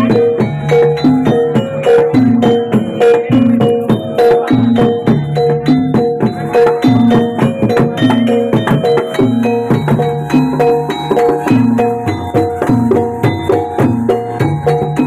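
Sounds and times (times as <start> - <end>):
gamelan percussion music: 0.0 - 15.0.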